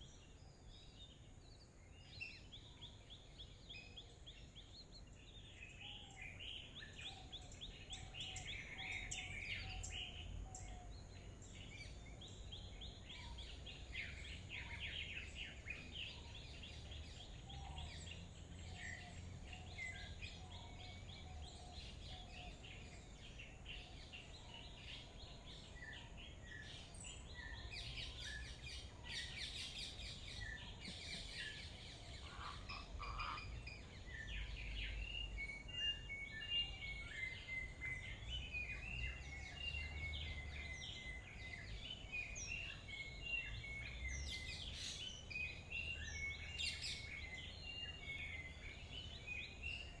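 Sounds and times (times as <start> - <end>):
birds calling and chirping: 0.0 - 50.0.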